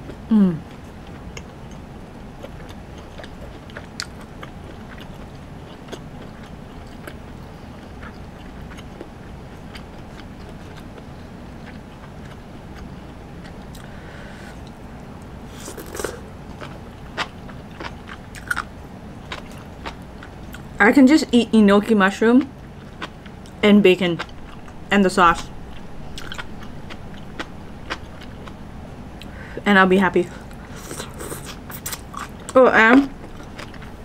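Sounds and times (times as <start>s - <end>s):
person chewing: 0.0s - 20.7s, 22.6s - 23.6s, 24.2s - 29.6s, 30.4s - 34.0s
low background noise: 0.0s - 34.0s.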